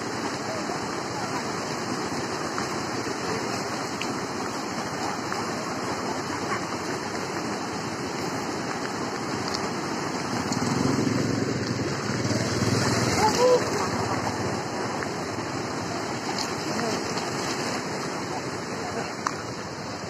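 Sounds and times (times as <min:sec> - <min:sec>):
muddy floodwater rushing: 0:00.0 - 0:20.0.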